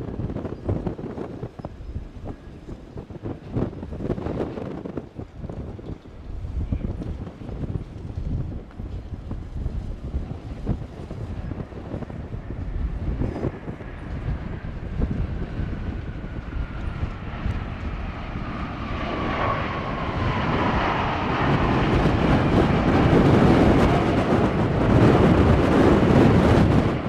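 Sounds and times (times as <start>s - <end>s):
jet engine whine: 0.0s - 27.0s
jet engines rolling past: 0.0s - 27.0s.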